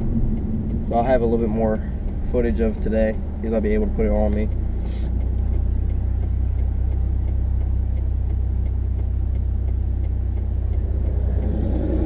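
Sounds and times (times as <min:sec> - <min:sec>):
engine and road rumble: 0:00.0 - 0:12.0
faint ticks: 0:00.0 - 0:12.0.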